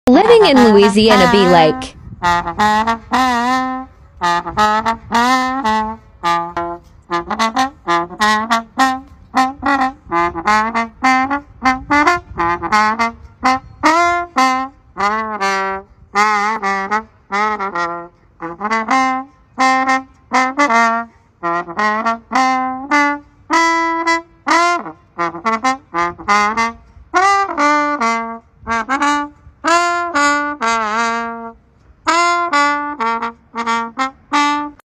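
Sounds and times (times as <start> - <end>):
solo trombone melody: 0.2 - 34.8.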